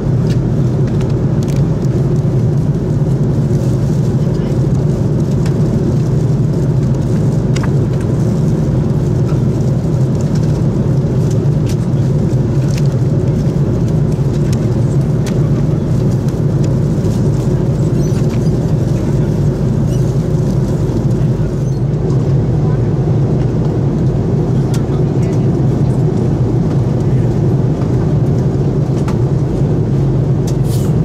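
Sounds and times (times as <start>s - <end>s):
aircraft cabin drone: 0.0s - 31.0s.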